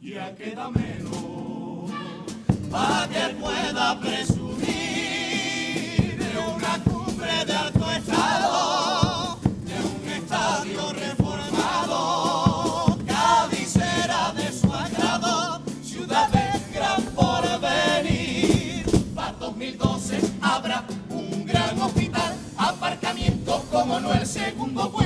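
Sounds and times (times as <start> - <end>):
men singing in unison: 0.0 - 25.0
steady drum beat: 0.8 - 25.0.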